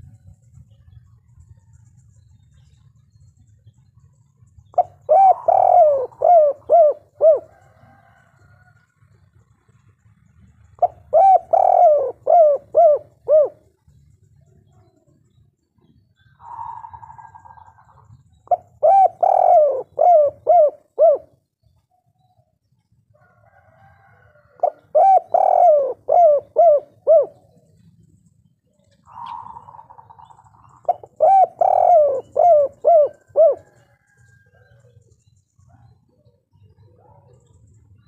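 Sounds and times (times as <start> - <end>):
dove cooing song: 0.0 - 22.5, 23.2 - 38.0.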